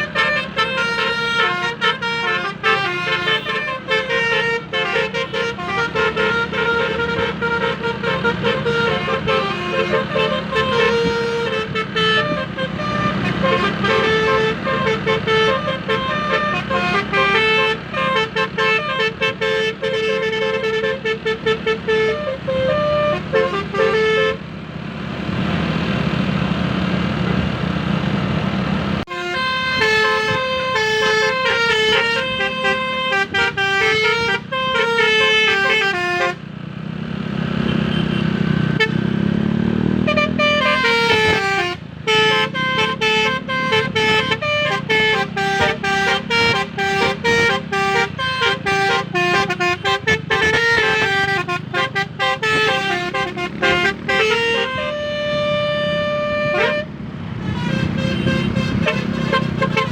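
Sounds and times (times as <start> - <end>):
multi-tone car horn melody: 0.0 - 24.4, 29.0 - 36.5, 37.6 - 39.3, 39.9 - 59.9
engine and road noise: 0.0 - 59.9.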